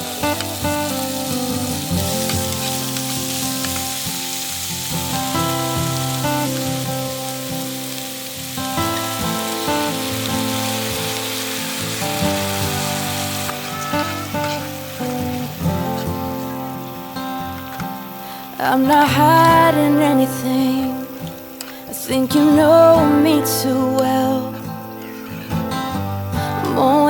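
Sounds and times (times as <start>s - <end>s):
steady sizzling hiss: 0.0s - 27.0s.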